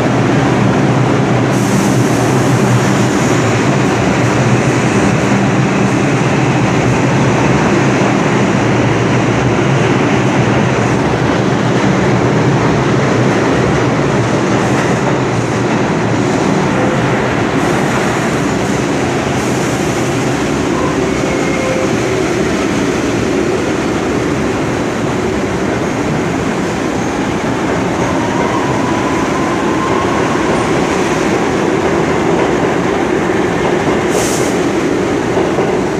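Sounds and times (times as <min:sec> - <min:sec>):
subway train rumbling on rails: 0:00.0 - 0:35.9.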